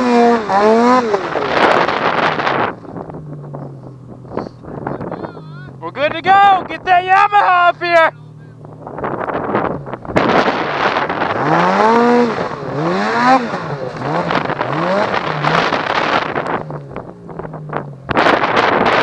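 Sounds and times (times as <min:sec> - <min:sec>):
rush of wind and snow: 0:00.0 - 0:19.0
snowmobile engine revving: 0:00.0 - 0:19.0.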